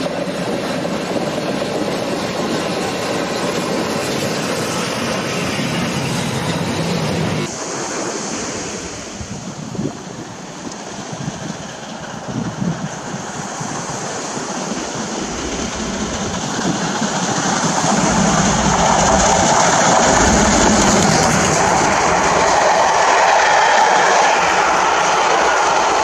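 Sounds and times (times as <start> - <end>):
sea surf: 0.0 - 26.0
steam train rumbling: 0.0 - 26.0
wind: 0.0 - 26.0.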